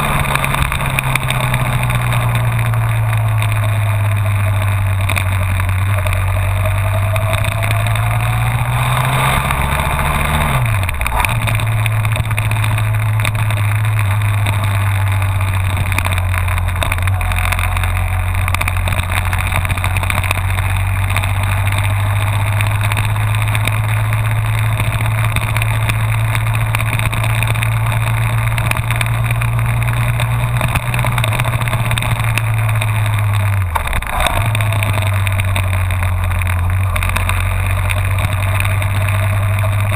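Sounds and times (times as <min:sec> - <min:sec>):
motorcycle engine pulling: 0:00.0 - 0:39.9
wind and road noise: 0:00.0 - 0:39.9.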